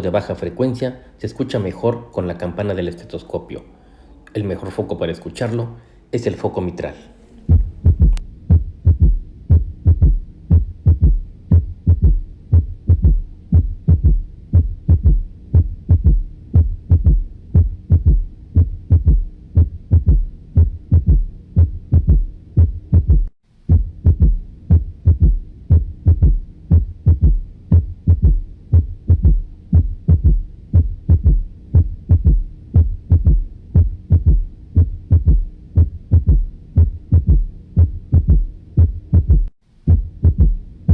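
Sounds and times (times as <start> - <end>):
heartbeat through stethoscope: 7.4 - 40.9.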